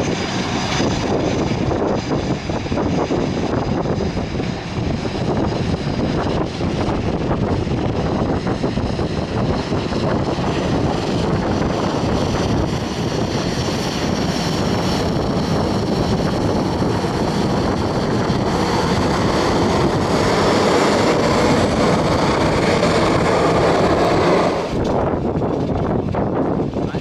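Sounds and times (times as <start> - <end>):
jet airliner engines running: 0.0 - 27.0
wind buffeting on microphone: 0.0 - 27.0.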